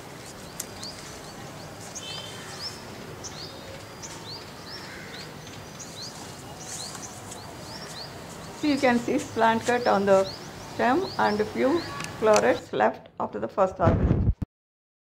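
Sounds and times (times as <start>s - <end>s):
small birds chirping: 0.0s - 12.9s
steady outdoor hiss: 0.0s - 13.7s.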